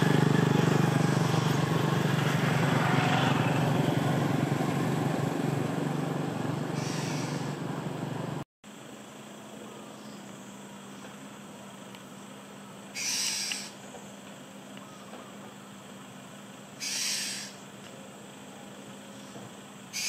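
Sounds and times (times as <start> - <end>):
steady motor drone: 0.0 - 20.0.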